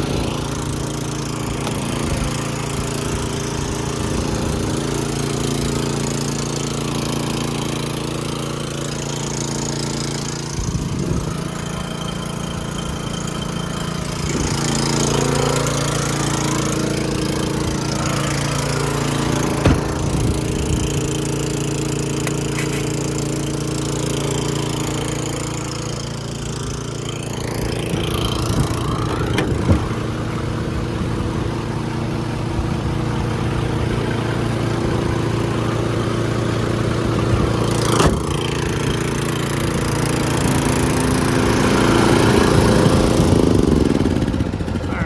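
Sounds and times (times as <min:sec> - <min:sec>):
air compressor running: 0:00.0 - 0:45.0.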